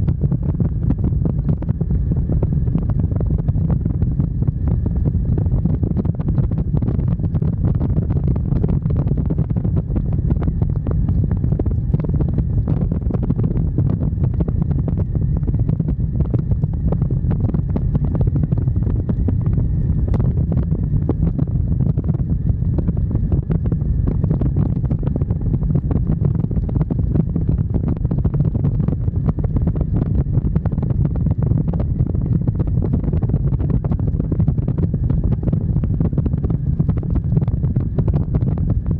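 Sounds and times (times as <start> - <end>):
engine and road rumble: 0.0 - 38.9
wind buffeting microphone: 0.0 - 38.9.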